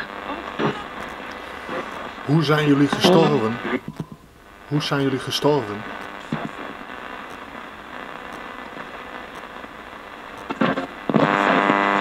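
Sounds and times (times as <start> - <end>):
loud buzzing hum: 0.0 - 12.0
radio static hiss: 0.0 - 12.0.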